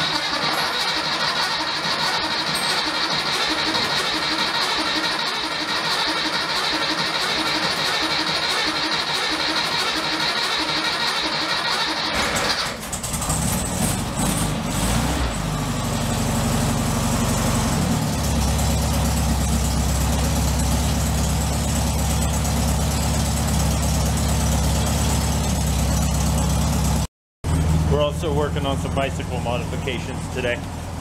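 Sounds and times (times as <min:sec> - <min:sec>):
car engine running: 0:00.0 - 0:14.8, 0:15.6 - 0:31.0.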